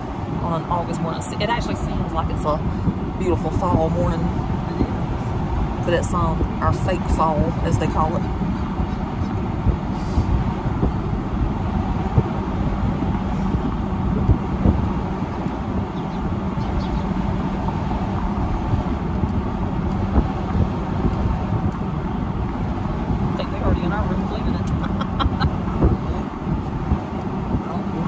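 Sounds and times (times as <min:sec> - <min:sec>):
car engine and road rumble: 0:00.0 - 0:28.0
low hum: 0:00.0 - 0:28.0.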